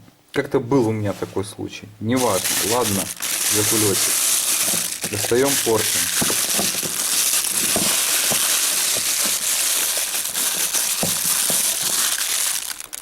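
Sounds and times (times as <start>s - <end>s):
plastic bag crinkling: 2.2s - 13.0s.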